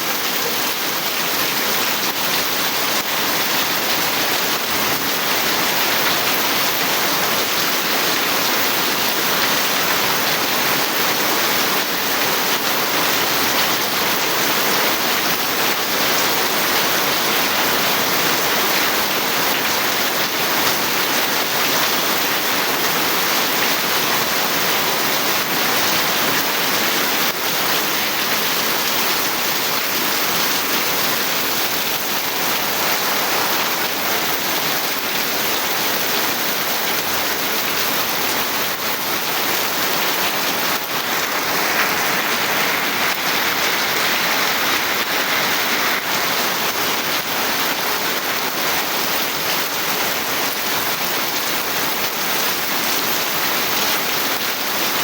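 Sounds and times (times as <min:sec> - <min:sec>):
heavy rain drumming on surfaces: 0:00.0 - 0:55.0.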